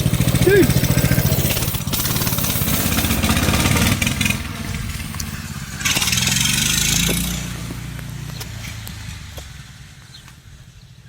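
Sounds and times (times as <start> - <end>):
small engine revving: 0.0 - 9.5.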